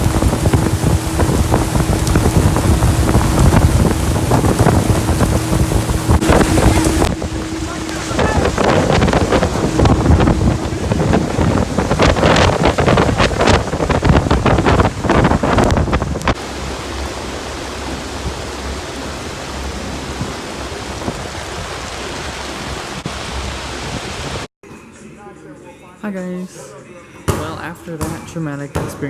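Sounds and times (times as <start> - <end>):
rushing water: 0.0 - 24.5
wind buffeting microphone: 0.0 - 24.5.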